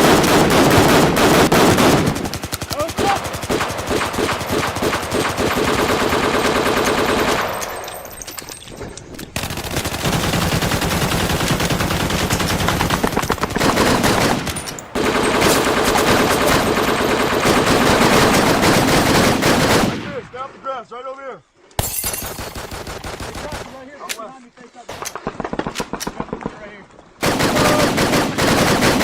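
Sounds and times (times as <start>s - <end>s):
automatic gunfire: 0.0s - 7.7s, 9.4s - 20.2s, 22.2s - 23.8s, 24.9s - 26.6s, 27.2s - 29.0s.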